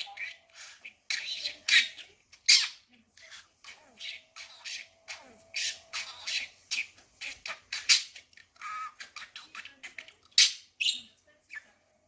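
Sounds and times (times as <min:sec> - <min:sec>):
budgerigar chattering: 0:00.0 - 0:11.1.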